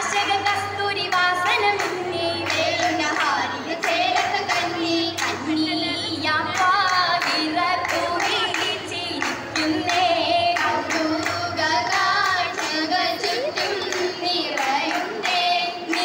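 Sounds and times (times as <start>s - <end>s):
sharp hand claps: 0.0s - 5.5s, 6.6s - 16.0s
girls singing in chorus: 0.0s - 16.0s.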